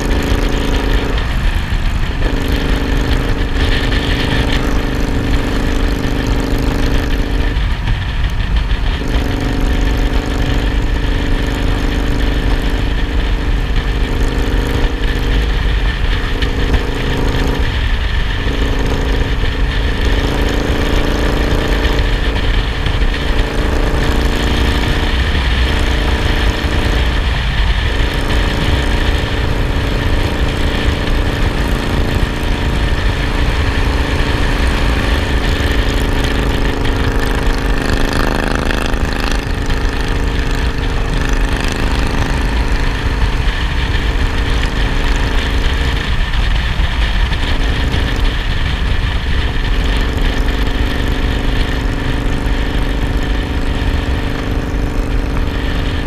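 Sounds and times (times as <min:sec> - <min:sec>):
motorcycle engine running: 0:00.0 - 0:56.0
wind and road noise rumble: 0:00.0 - 0:56.0.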